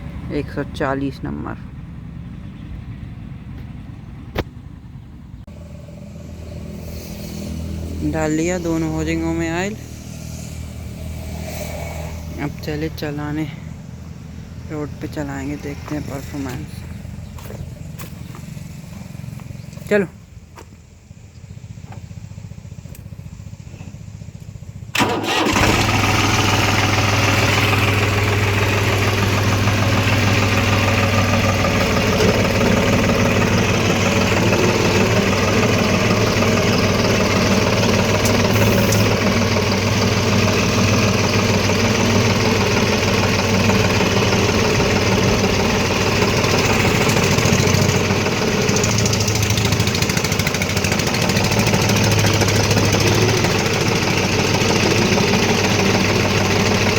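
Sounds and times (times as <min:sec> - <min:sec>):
tractor diesel engine starting: 0:00.0 - 0:56.9.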